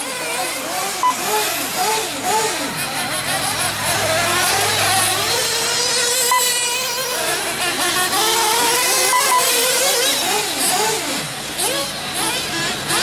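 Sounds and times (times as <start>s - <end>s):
model car engines buzzing: 0.0s - 13.0s.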